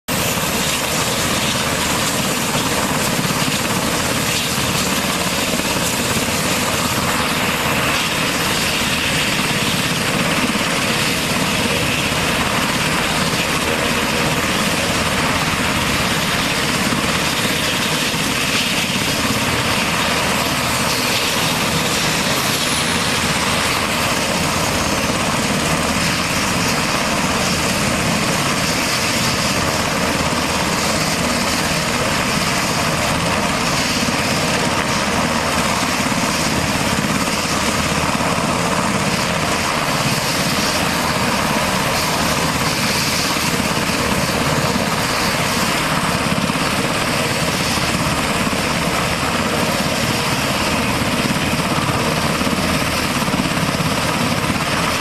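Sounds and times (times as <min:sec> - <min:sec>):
helicopter engine whine and rotors: 0:00.0 - 0:55.0.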